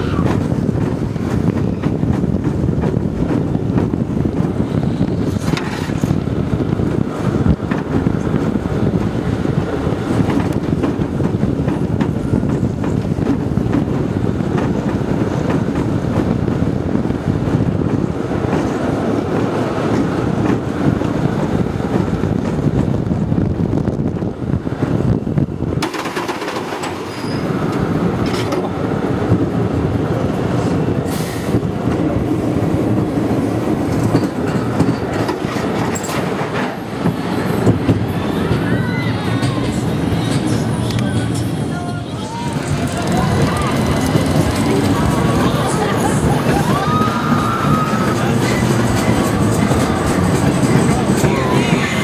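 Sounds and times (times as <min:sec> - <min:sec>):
roller coaster wheels rumbling on rails: 0:00.0 - 0:52.0.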